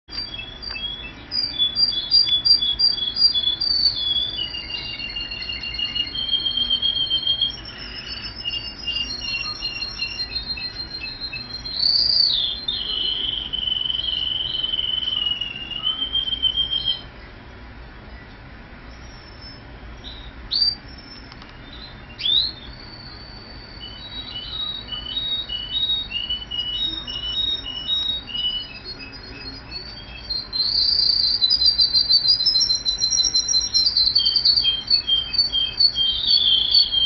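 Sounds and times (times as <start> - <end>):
canary singing trills: 0.1 - 17.6, 18.2 - 37.0.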